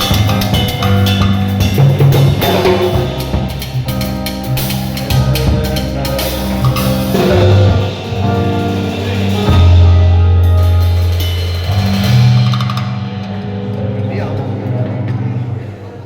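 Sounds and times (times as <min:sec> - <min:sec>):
cymbals: 0:00.0 - 0:13.6
drum kit: 0:00.0 - 0:14.6
band music: 0:00.0 - 0:16.0
bass holding long low notes: 0:00.0 - 0:16.0.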